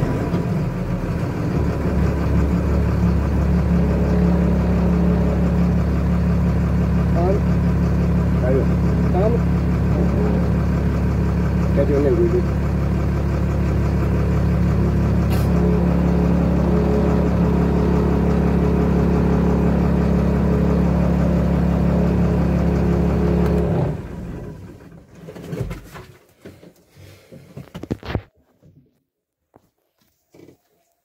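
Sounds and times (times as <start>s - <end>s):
diesel engine running: 0.0s - 25.1s.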